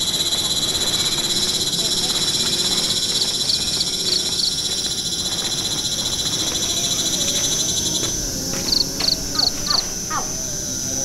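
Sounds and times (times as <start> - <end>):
forest insects buzzing: 0.0 - 11.0.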